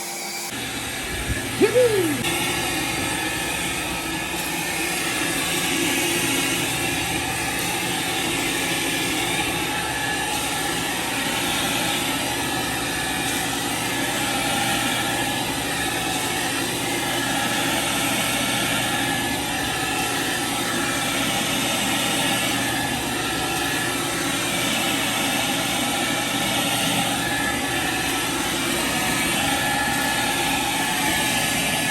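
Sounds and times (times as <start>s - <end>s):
carpet-cleaning machine whirring: 0.0s - 31.9s.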